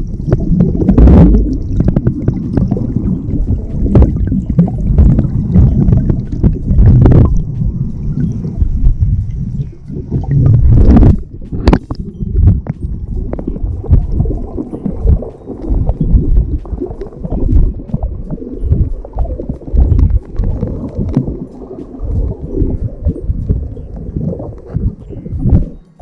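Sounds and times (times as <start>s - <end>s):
underwater water churning: 0.0s - 26.0s.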